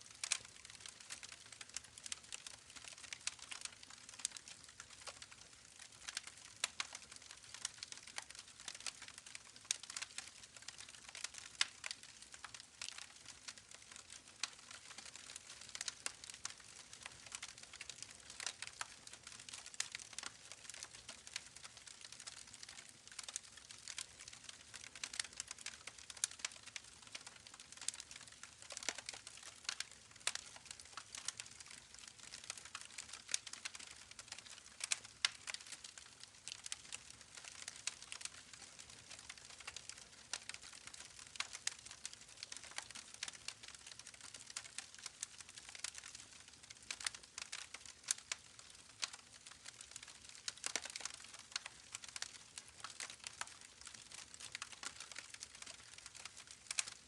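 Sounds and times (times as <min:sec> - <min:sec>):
campfire crackling: 0:00.1 - 0:57.0.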